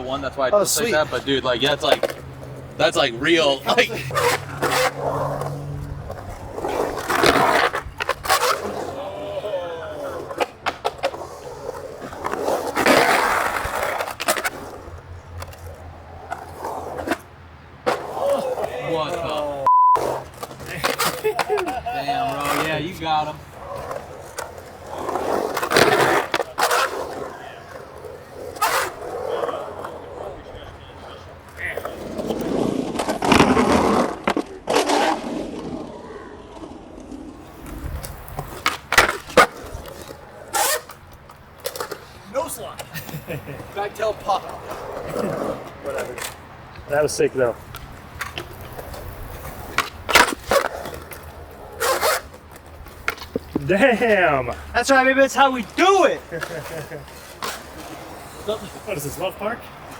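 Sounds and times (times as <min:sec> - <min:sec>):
skateboard wheels rolling: 0:00.0 - 0:59.9
skateboard clacks: 0:00.9 - 0:02.8, 0:09.9 - 0:35.8, 0:36.9 - 0:59.9
skateboard rough scrape: 0:03.4 - 0:59.9.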